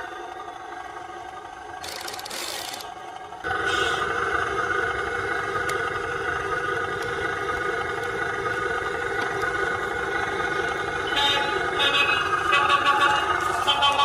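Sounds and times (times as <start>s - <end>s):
model truck motor whining: 0.0s - 14.0s.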